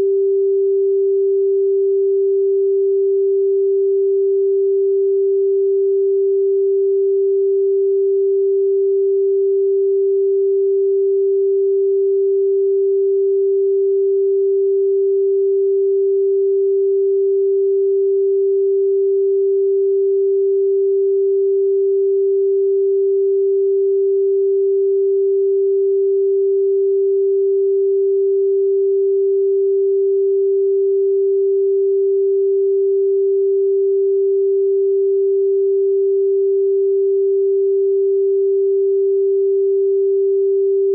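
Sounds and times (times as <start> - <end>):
steady sine tone: 0.0 - 40.9.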